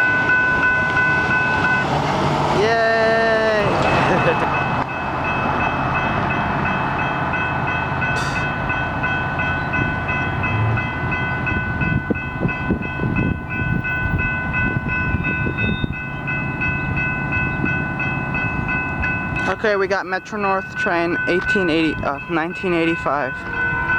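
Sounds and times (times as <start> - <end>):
crossing bells ringing: 0.0 - 23.9
train rumbling: 0.0 - 23.9.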